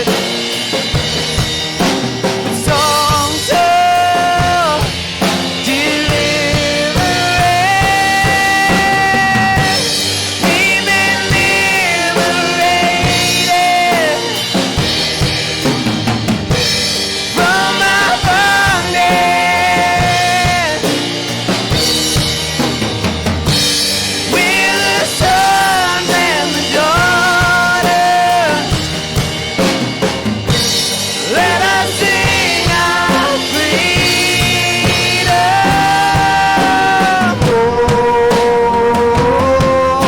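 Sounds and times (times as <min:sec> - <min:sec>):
drum kit playing: 0:00.0 - 0:40.0.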